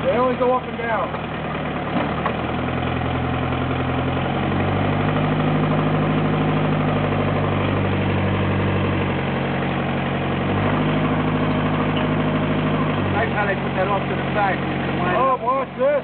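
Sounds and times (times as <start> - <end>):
diesel backhoe engine running: 0.0 - 16.0.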